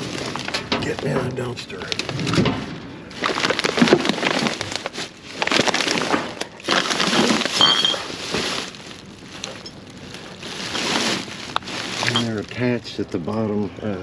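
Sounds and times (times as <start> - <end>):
trash crunching and rattling: 0.0 - 13.4.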